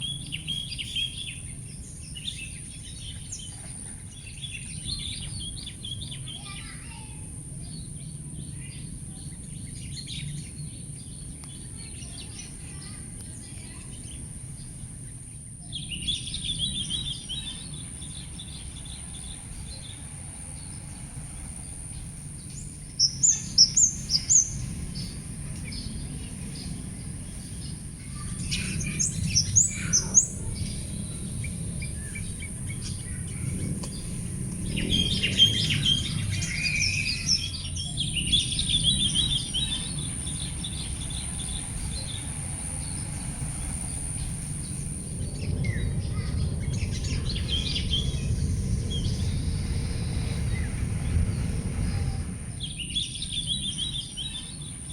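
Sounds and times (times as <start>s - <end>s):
low background rumble: 0.0s - 54.9s
small birds chirping: 0.0s - 54.9s.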